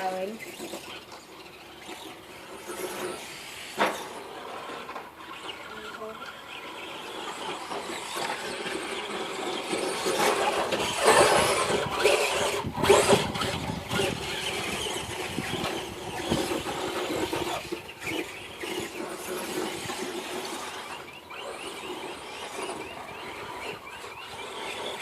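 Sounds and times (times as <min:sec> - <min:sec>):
radio-controlled car motors whining: 0:00.0 - 0:25.0.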